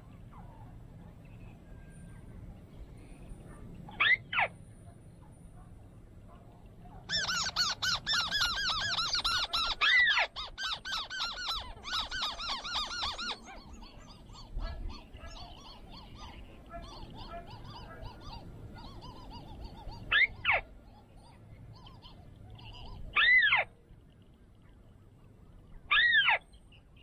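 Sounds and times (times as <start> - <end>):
bird calls: 0.0 - 27.0.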